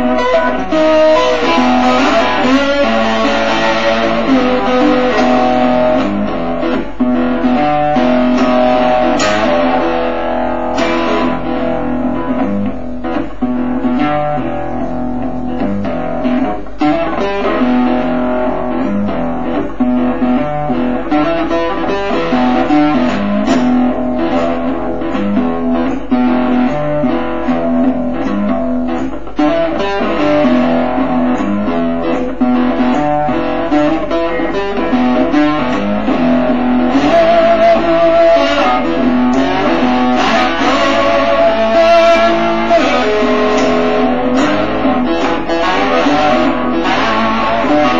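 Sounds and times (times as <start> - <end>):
plucked guitar notes: 0.0 - 47.9.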